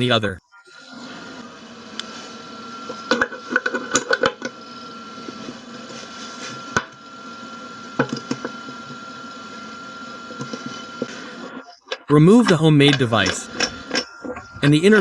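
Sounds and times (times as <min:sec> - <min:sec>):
steady high hum: 0:00.7 - 0:15.0.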